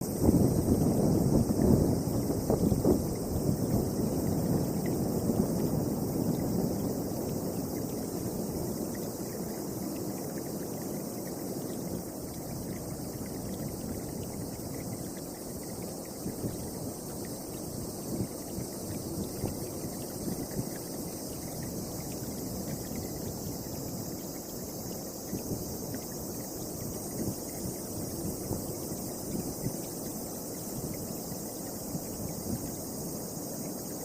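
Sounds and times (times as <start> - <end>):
steady high hiss: 0.0 - 34.0.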